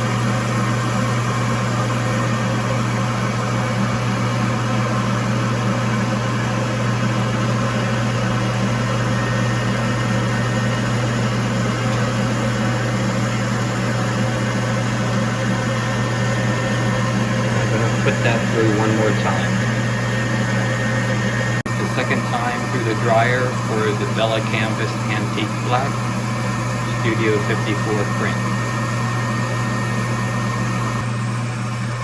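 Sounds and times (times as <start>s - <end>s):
conveyor dryer humming: 0.0s - 32.0s.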